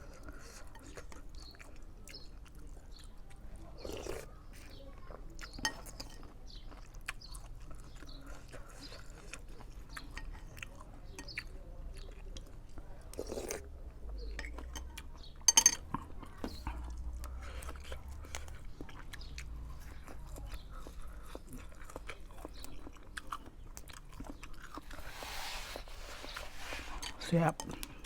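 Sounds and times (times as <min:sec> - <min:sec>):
person chewing noodles: 0:00.0 - 0:28.0.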